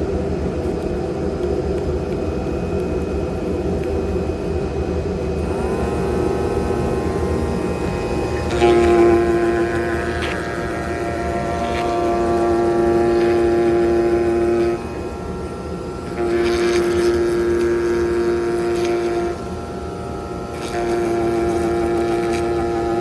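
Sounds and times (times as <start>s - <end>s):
constant mechanical noise: 0.0s - 23.0s
cutting head pitched hum: 0.0s - 23.0s.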